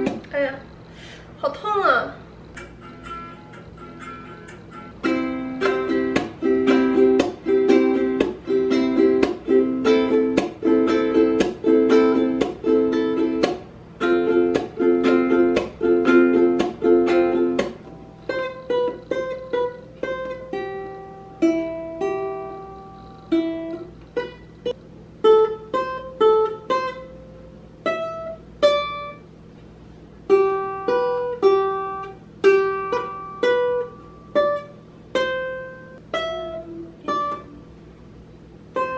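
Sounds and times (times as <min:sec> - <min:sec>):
ukulele single-note melody: 0:00.0 - 0:00.3, 0:02.6 - 0:29.3, 0:30.3 - 0:37.8
ukulele strumming chords: 0:00.0 - 0:00.3, 0:02.5 - 0:38.9.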